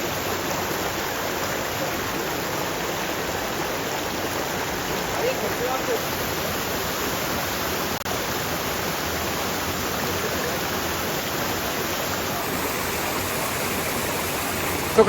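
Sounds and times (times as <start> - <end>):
waterfall pouring: 0.0 - 15.0.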